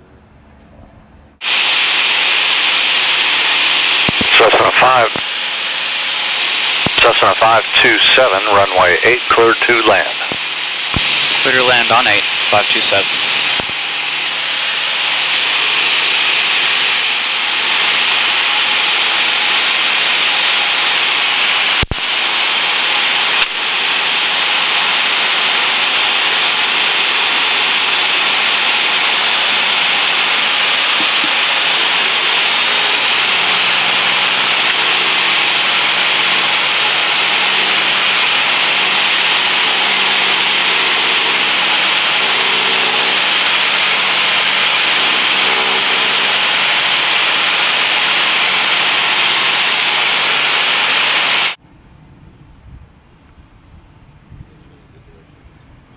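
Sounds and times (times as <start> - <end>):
light aircraft engine and propeller: 0.0 - 55.9.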